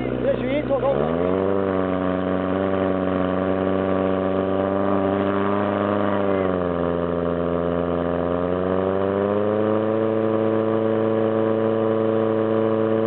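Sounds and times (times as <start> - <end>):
pump engine running hard: 0.0 - 13.0.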